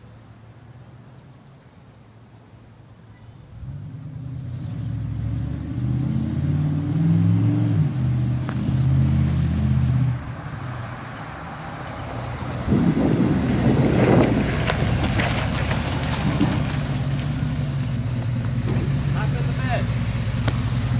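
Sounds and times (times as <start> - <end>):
truck engine revving: 3.5 - 20.9.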